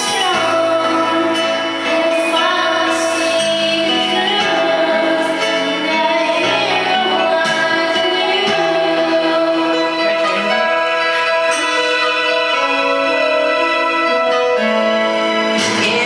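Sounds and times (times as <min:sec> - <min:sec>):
woman singing a pop ballad: 0:00.0 - 0:14.2, 0:15.6 - 0:16.0
karaoke backing track: 0:00.0 - 0:16.0.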